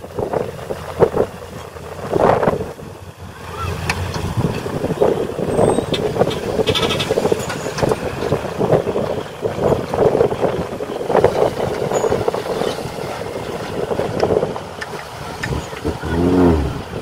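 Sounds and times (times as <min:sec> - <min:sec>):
dump truck engine running: 0:00.0 - 0:17.0.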